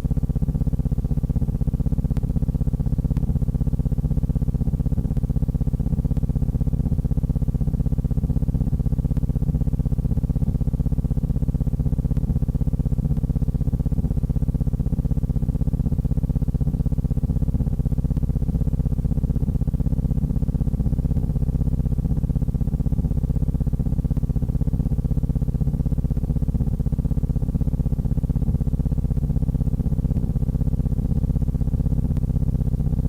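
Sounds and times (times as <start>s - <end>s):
low pulsing hum: 0.0s - 33.0s.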